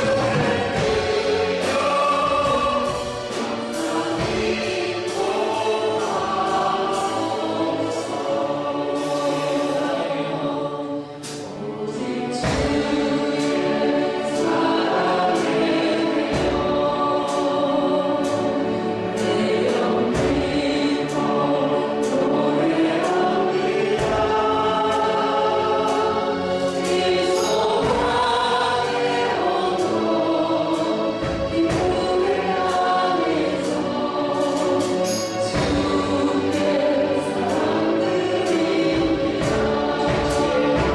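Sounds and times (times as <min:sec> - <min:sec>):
group singing worship song: 0:00.0 - 0:40.9
instrumental accompaniment with beat: 0:00.0 - 0:40.9.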